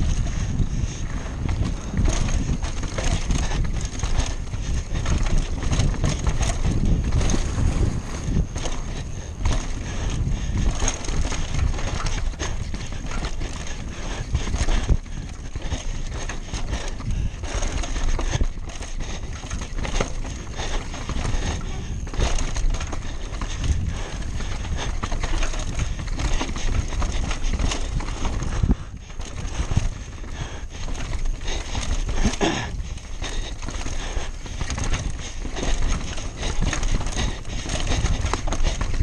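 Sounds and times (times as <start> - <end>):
wind and rolling noise: 0.0 - 39.0
bike clattering over rocks: 1.3 - 39.0.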